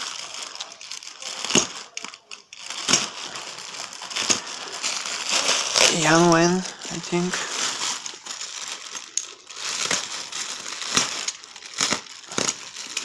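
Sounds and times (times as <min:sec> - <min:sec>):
plastic bag crinkling: 0:00.0 - 0:13.0
sharp plastic crackles: 0:00.0 - 0:13.0.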